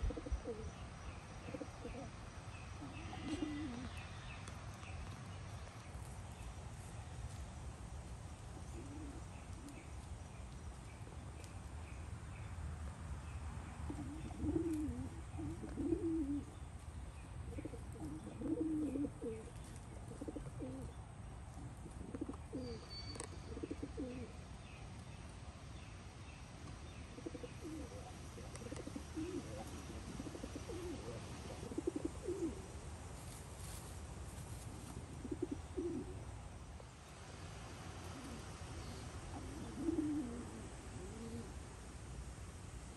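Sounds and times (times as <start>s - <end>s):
small birds chirping: 0.0s - 36.2s.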